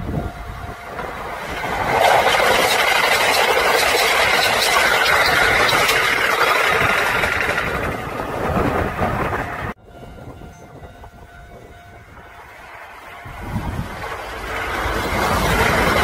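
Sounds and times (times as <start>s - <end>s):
train wheel and track noise: 0.0s - 16.0s.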